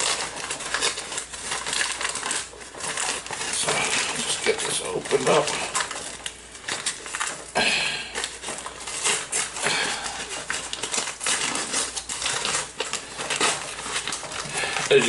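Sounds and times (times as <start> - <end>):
plastic bag crinkling: 0.0 - 15.0
plastic bag ripping: 0.0 - 15.0.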